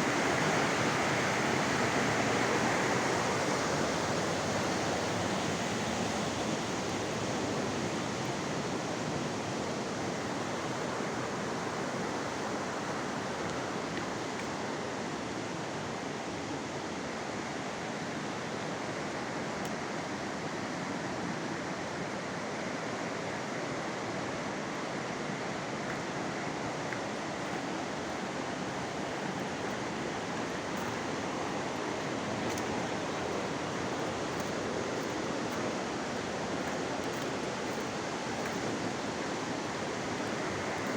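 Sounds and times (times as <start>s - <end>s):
fast-flowing stream rushing: 0.0s - 40.9s.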